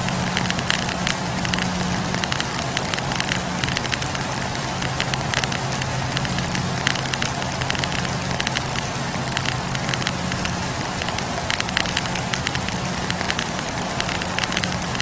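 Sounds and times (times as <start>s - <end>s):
burning logs popping: 0.0s - 15.0s
flames hissing: 0.0s - 15.0s.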